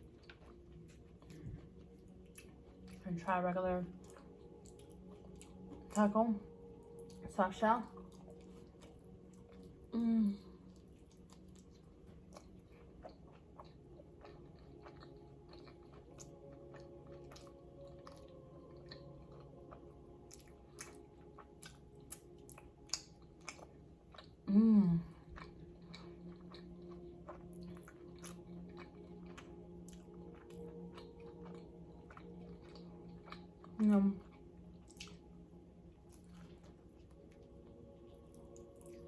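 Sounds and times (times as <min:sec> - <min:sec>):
chewing with wet mouth clicks: 0:00.0 - 0:03.0, 0:03.9 - 0:10.0, 0:10.6 - 0:24.5, 0:25.1 - 0:39.0
faint steady humming: 0:00.0 - 0:39.0.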